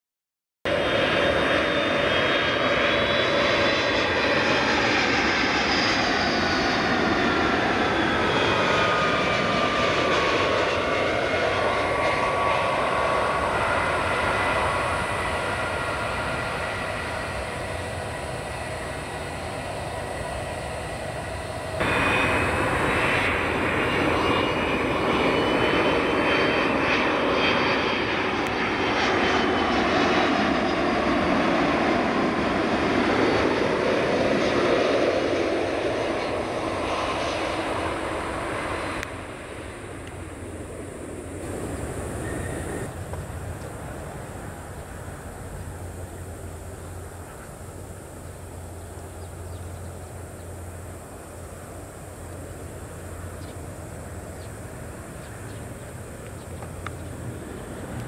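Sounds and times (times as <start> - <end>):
airliner passing low overhead: 0.7 - 58.0
jet airliner landing: 0.7 - 58.0.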